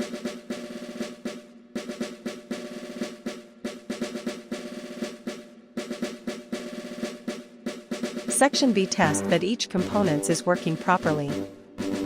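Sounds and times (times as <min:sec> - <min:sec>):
background music with drums: 0:00.0 - 0:12.0.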